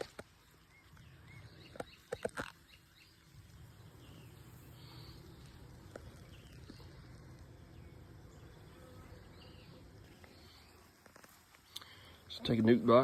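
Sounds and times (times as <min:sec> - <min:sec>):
faint bird chirps: 0:00.0 - 0:12.7
bees buzzing: 0:00.0 - 0:13.0.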